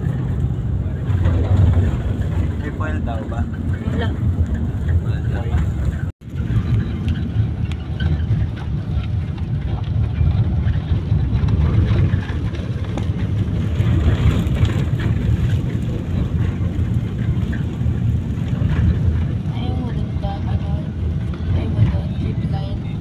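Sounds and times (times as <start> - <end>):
van engine and tyres rumbling: 0.0 - 23.0.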